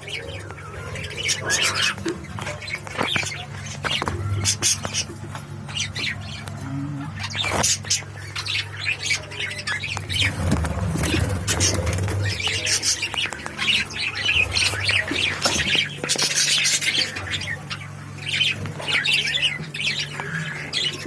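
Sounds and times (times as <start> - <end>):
budgerigars chattering: 0.0 - 21.0
steady low hum: 0.0 - 21.0.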